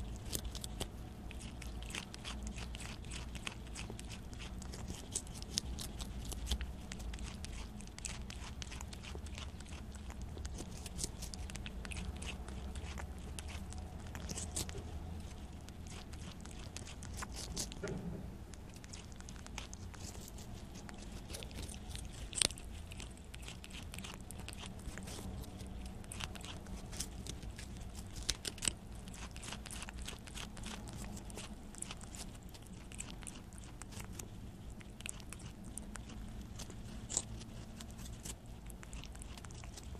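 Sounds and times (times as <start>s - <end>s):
animal chewing melon: 0.0s - 39.9s.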